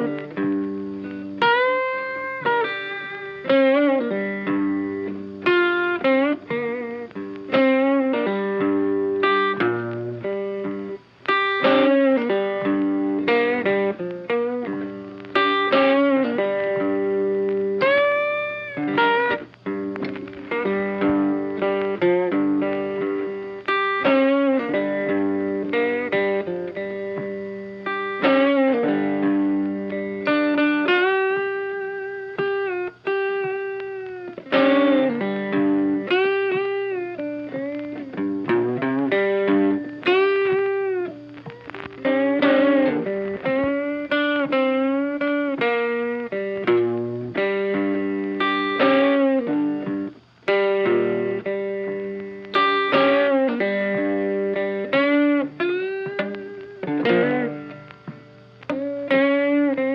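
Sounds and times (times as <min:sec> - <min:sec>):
funky guitar music: 0:00.0 - 0:59.9.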